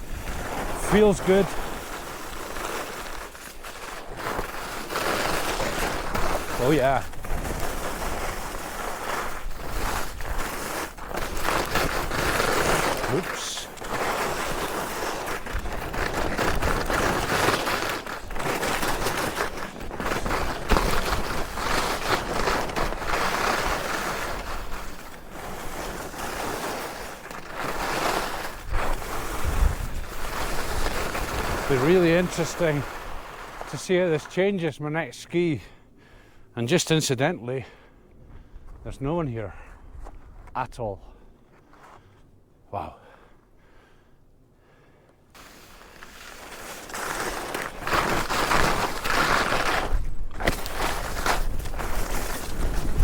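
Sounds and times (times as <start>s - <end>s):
skis hissing over snow: 0.0s - 35.3s, 45.4s - 53.0s.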